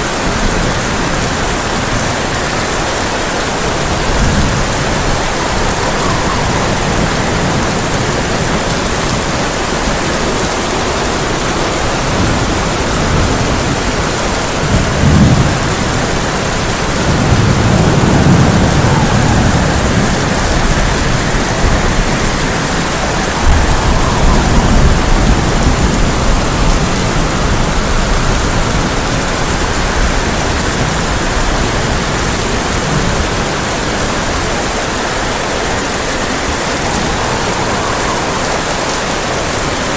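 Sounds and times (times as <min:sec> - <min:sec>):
heavy rain on a tin roof: 0:00.0 - 0:39.9
thunder rumbling: 0:00.0 - 0:39.9.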